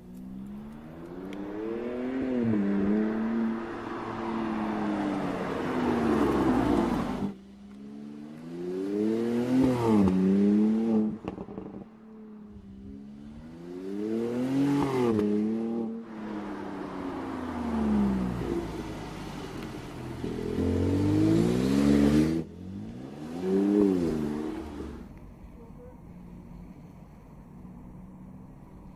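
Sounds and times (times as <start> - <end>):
car engine revving: 0.0 - 25.2.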